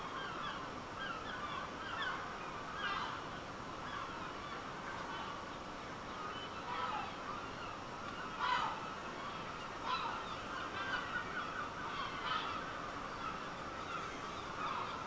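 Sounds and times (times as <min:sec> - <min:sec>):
birds calling: 0:00.1 - 0:15.0.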